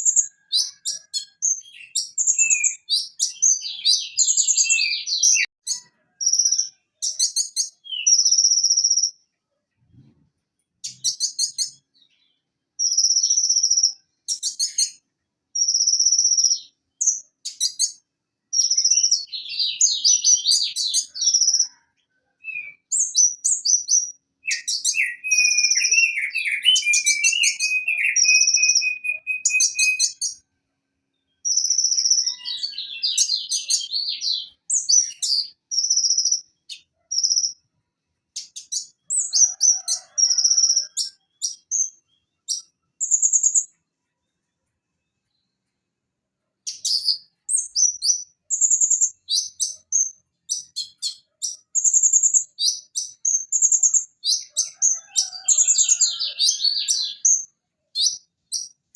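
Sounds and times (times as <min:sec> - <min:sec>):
sunbird chirps and trills: 0:00.0 - 0:09.3, 0:10.8 - 0:30.5, 0:31.1 - 0:37.7, 0:38.3 - 0:43.9, 0:46.6 - 0:58.9.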